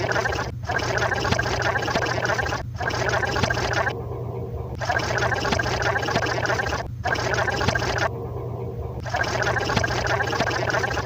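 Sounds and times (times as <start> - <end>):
gurgling liquid: 0.0 - 11.0.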